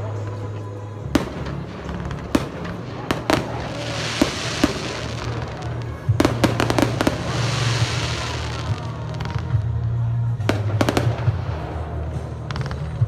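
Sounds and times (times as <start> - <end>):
fireworks bursting with bangs: 0.0 - 13.0
fireworks crackling: 1.1 - 13.0.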